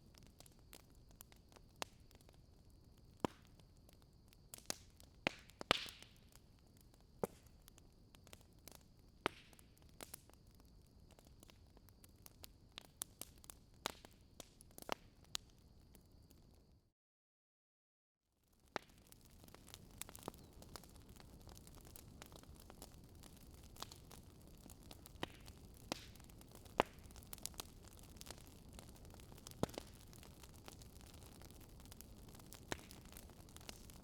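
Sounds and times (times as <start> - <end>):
wood fire crackling and popping: 0.0 - 16.4, 18.5 - 34.0.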